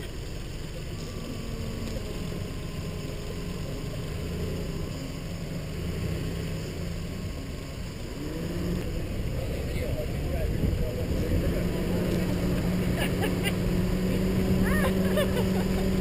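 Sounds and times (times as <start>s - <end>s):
car engine low rumble: 0.0s - 16.0s.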